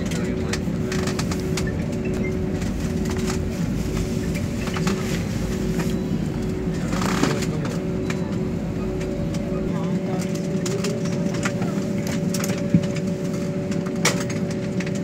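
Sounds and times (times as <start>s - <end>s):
jet engine hum and rumble: 0.0s - 15.0s.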